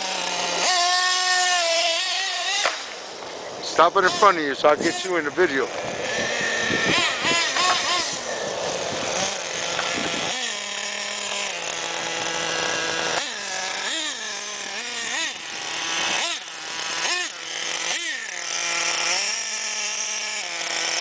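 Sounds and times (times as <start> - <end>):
model car engine revving: 0.0 - 21.0.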